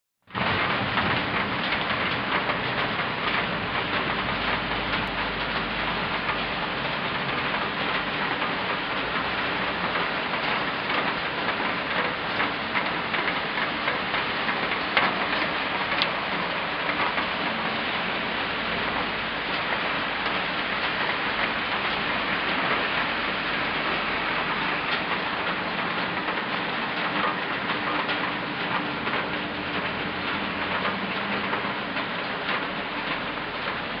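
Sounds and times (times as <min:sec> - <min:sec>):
steady rain falling: 0:00.3 - 0:34.0.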